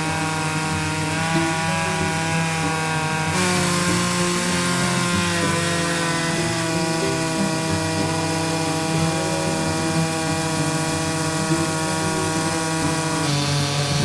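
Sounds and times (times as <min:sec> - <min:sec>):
chainsaw cutting a log: 0:00.0 - 0:14.0.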